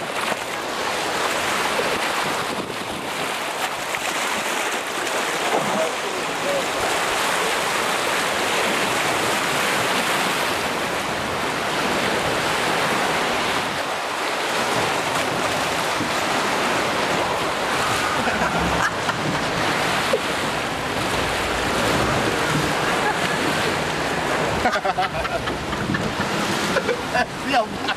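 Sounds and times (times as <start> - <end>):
rushing white water: 0.0 - 27.9.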